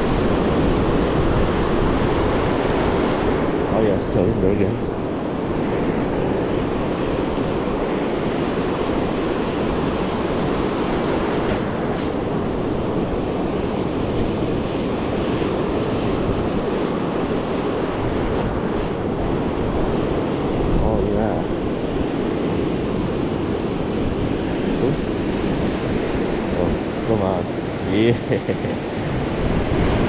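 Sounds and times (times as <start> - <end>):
ocean surf breaking: 0.0 - 30.0
wind buffeting microphone: 0.0 - 30.0.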